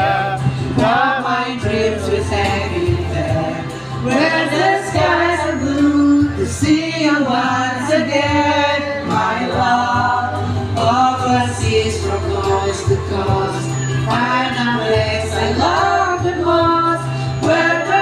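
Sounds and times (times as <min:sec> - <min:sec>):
men and women singing together: 0:00.0 - 0:18.0
steady bass: 0:00.0 - 0:18.0.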